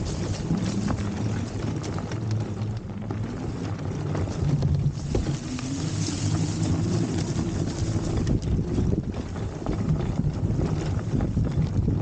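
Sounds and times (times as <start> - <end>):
e-bike rumbling over grass: 0.0 - 12.0
small clicks and crackles: 0.0 - 12.0
wind buffeting microphone: 0.0 - 12.0.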